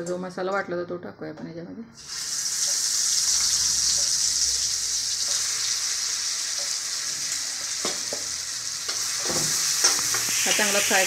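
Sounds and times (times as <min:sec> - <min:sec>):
paste sizzling in hot oil: 0:02.0 - 0:11.0.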